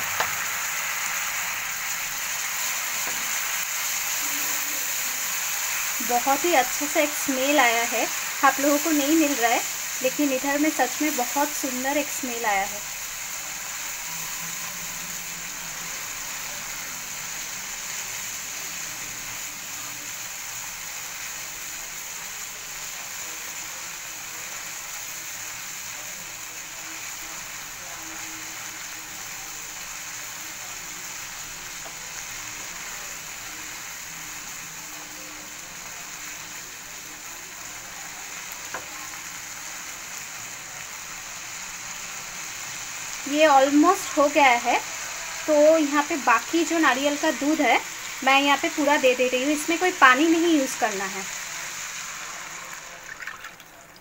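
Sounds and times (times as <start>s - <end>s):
gravy sizzling in a frying pan: 0.0s - 54.0s.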